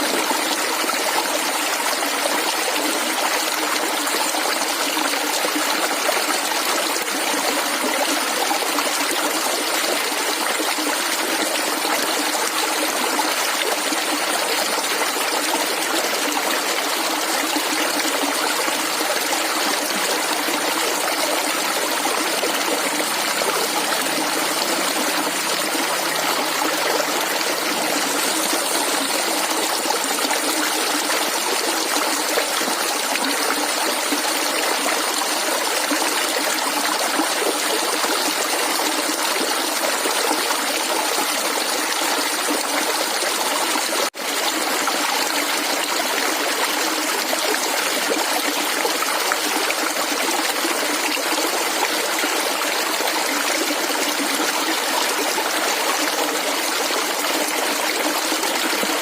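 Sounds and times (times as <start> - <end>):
stream water gurgling: 0.0 - 59.0.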